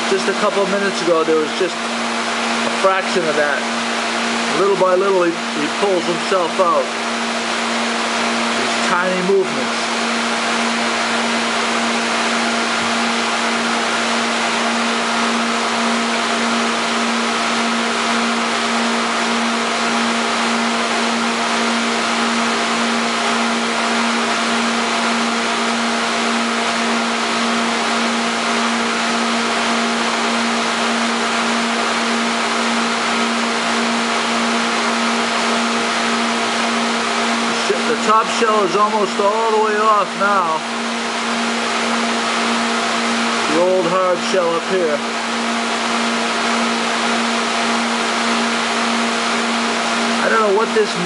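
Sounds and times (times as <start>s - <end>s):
pumps humming: 0.0s - 51.0s.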